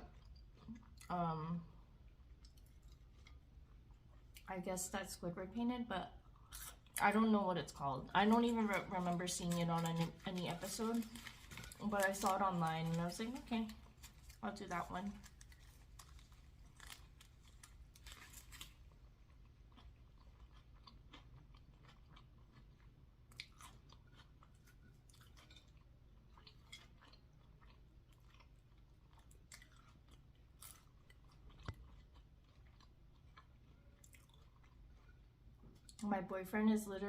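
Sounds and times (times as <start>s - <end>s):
faint chewing with crunches: 0.0s - 4.7s, 6.1s - 36.1s.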